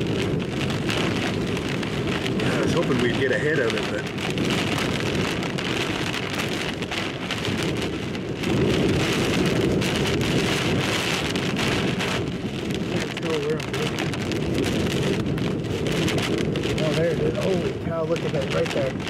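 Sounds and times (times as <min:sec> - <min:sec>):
heavy rain on car: 0:00.0 - 0:19.0
wet road noise: 0:00.0 - 0:19.0.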